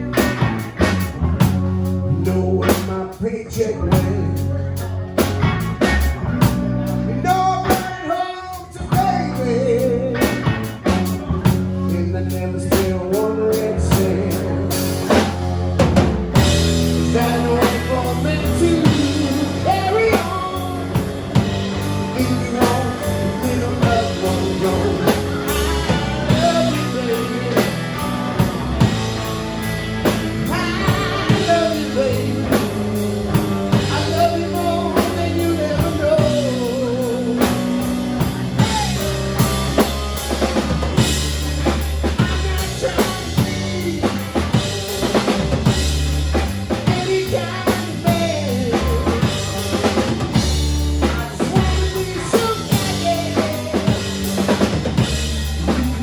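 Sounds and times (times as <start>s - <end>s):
bass guitar: 0.0s - 56.0s
drum kit: 0.0s - 56.0s.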